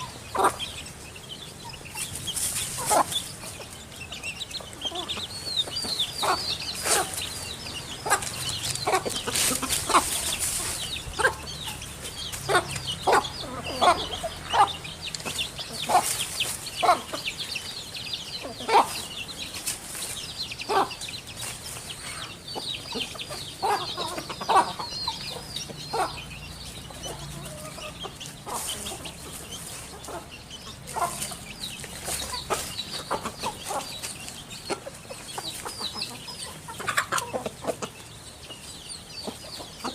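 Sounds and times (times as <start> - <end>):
chickens clucking: 0.0 - 39.9
small birds chirping: 0.0 - 39.9.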